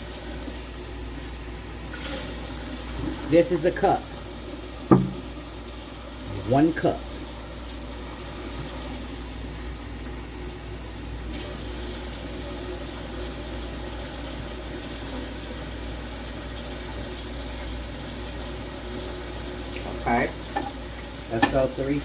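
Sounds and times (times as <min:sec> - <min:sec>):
tap water filling a cup: 0:01.2 - 0:10.3, 0:11.3 - 0:21.8.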